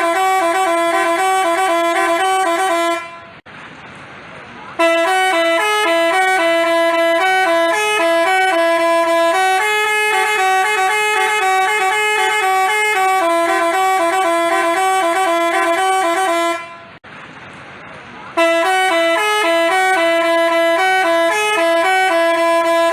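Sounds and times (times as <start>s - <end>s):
bus horn playing a tune: 0.0s - 3.4s, 4.8s - 17.0s, 18.3s - 22.9s.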